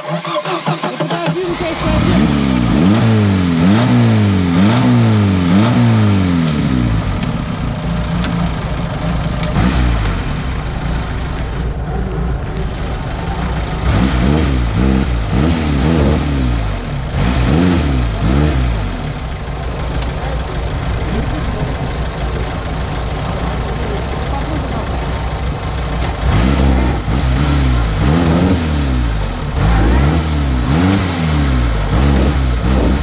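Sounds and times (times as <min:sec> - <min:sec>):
engine revving: 0:00.0 - 0:33.0.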